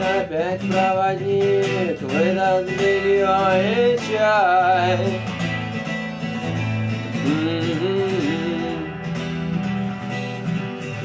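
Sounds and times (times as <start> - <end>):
strummed guitar: 0.0 - 11.0.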